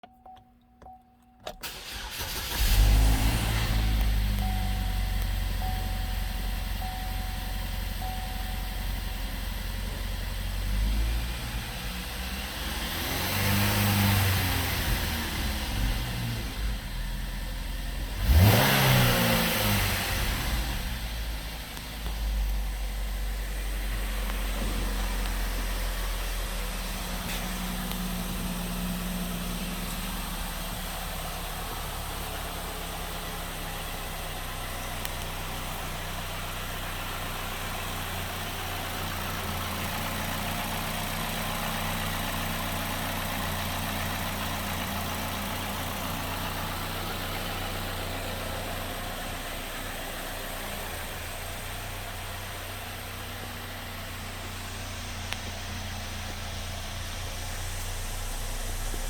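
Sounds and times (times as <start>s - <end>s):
car engine idling: 1.6s - 59.0s.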